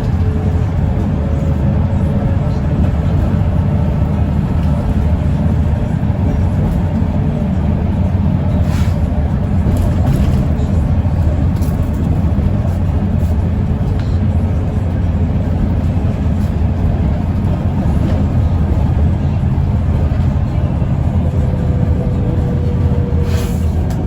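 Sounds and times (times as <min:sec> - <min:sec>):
bus engine drone: 0:00.0 - 0:24.0
road noise: 0:00.0 - 0:24.0.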